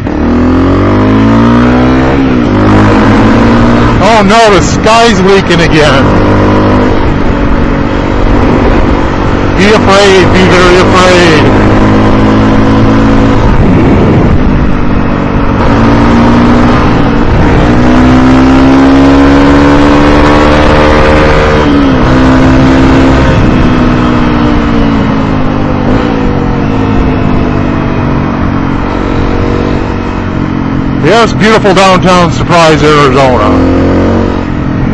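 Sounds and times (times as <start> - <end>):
motorcycle engine accelerating: 0.0 - 34.9
wind rumble: 0.0 - 34.9.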